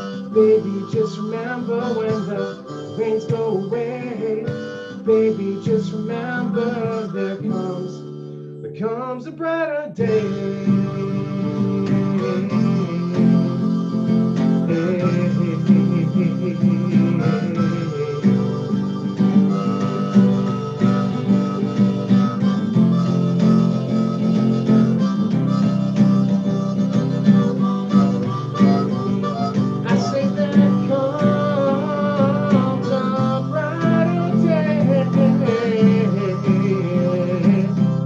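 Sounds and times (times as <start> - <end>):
harmonica solo: 0.0 - 9.4, 10.0 - 38.0
strummed acoustic guitar: 0.0 - 38.0.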